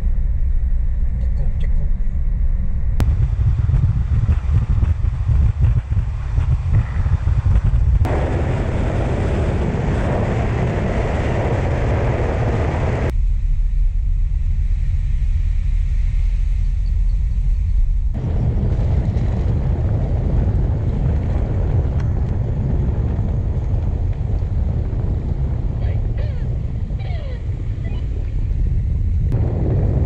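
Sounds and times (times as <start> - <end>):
vehicle rumble: 0.0 - 30.0
wind noise hiss: 3.0 - 30.0.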